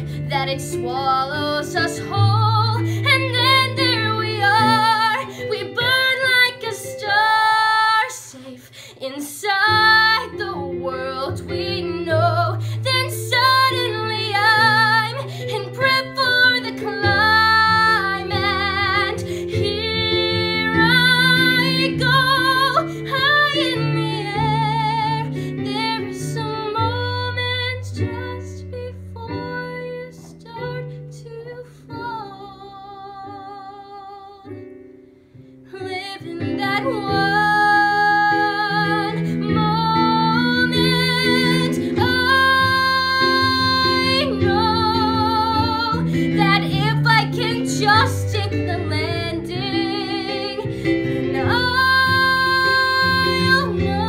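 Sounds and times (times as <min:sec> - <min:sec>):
woman singing with vibrato: 0:00.0 - 0:34.5, 0:35.8 - 0:54.0
piano accompaniment: 0:00.0 - 0:54.0.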